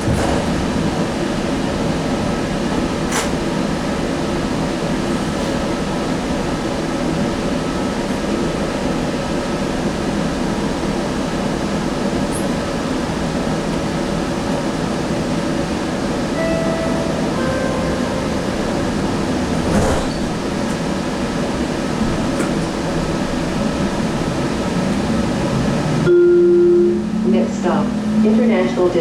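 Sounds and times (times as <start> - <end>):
train ventilation hum: 0.0 - 29.0.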